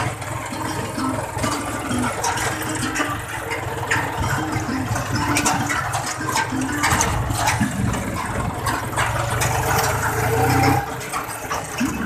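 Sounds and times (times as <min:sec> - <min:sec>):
rattling of tractor body: 0:00.0 - 0:12.0
tractor diesel engine running: 0:00.0 - 0:12.0.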